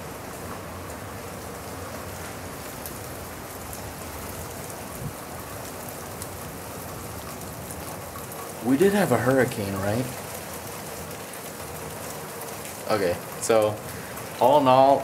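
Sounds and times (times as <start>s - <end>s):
rain on shrubs and grass: 0.0s - 15.0s.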